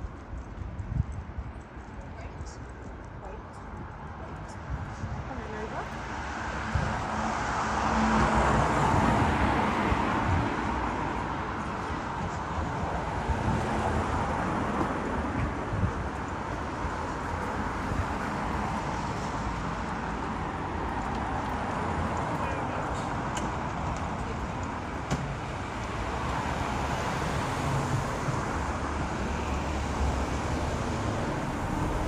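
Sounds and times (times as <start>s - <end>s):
road traffic noise: 0.0s - 32.0s
vehicle passing: 5.3s - 32.0s.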